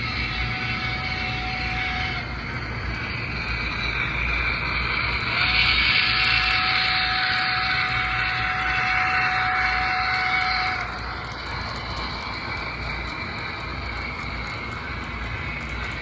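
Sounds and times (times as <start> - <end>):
model train whirring on rails: 0.0 - 16.0.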